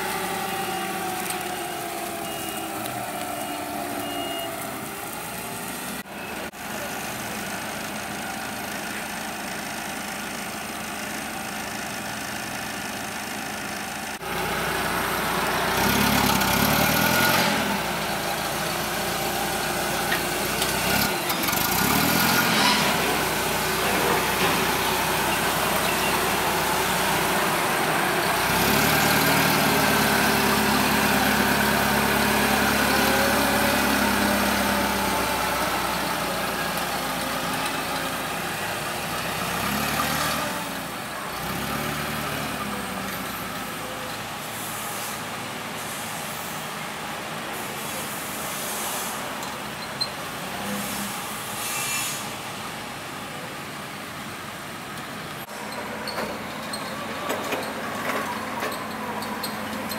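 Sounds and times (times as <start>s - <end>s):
forklift engine running: 0.0s - 48.5s, 52.4s - 59.9s.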